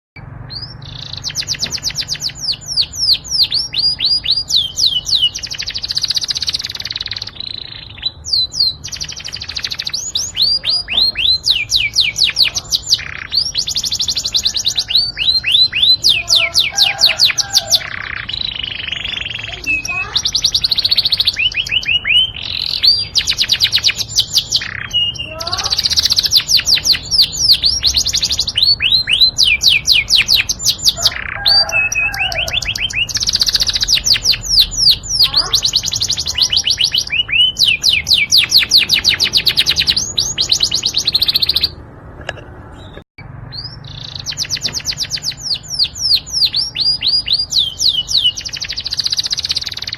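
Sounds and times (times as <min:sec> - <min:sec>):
canary singing trills: 0:00.2 - 0:49.9.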